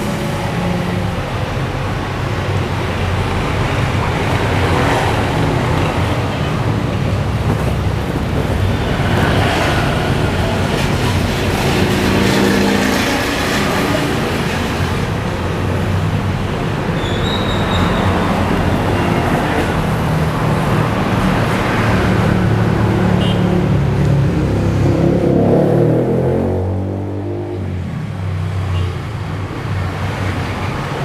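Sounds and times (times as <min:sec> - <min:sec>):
road traffic passing: 0:00.0 - 0:28.4.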